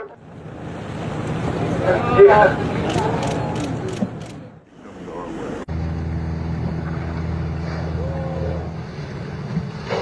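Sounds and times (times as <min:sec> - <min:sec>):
boat engine humming: 0:00.0 - 0:10.0.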